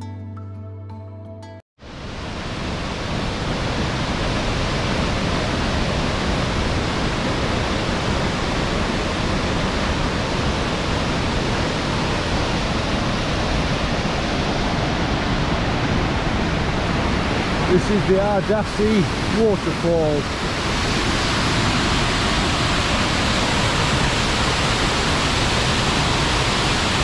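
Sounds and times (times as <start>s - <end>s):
waterfall rushing: 1.8s - 27.0s.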